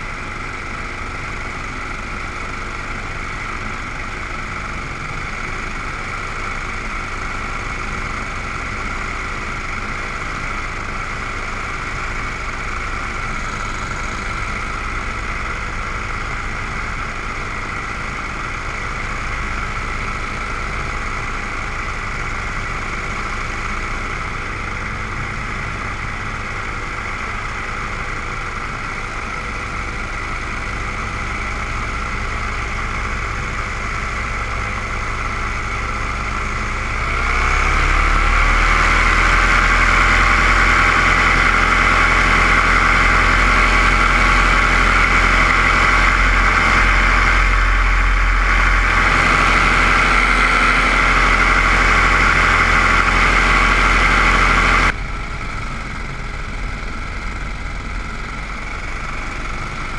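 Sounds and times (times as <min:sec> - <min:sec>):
drone motors humming: 0:00.0 - 0:59.9.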